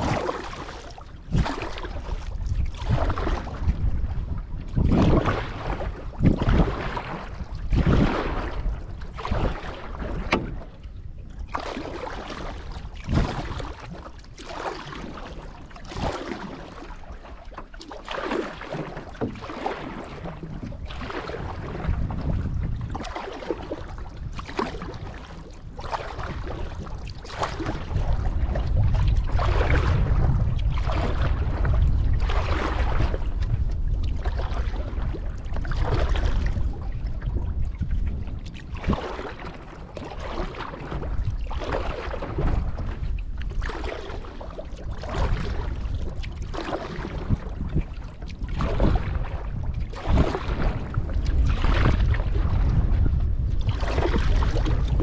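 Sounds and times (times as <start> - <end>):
paddle splashing in water: 0.0 - 55.0
wind rumble on microphone: 0.0 - 55.0.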